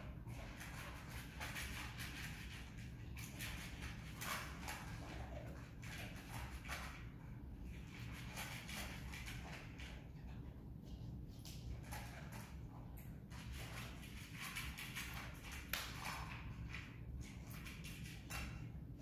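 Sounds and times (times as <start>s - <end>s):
dog eating crunching: 0.0s - 19.0s
steady low hum: 0.0s - 19.0s.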